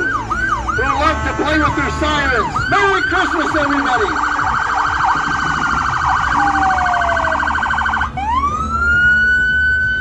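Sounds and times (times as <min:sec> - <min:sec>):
siren wailing: 0:00.0 - 0:10.0
siren warbling: 0:00.0 - 0:10.0.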